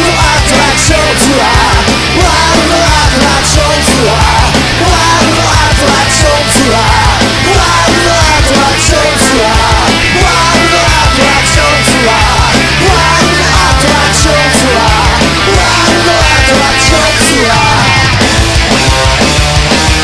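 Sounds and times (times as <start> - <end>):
bass guitar: 0.0 - 20.0
distorted guitars: 0.0 - 20.0
drums: 0.0 - 20.0.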